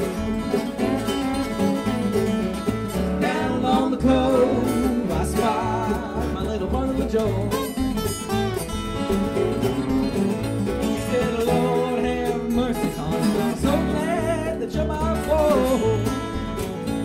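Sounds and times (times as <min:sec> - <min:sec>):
bluegrass band playing: 0:00.0 - 0:17.0
upright bass pulse: 0:00.0 - 0:17.0.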